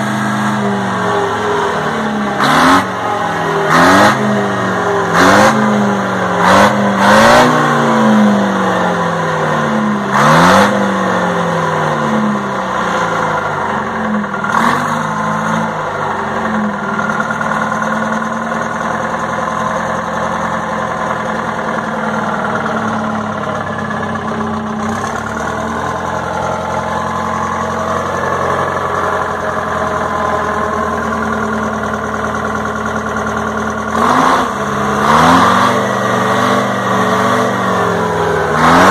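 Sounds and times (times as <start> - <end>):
diesel engine revving and idling: 0.0 - 38.9.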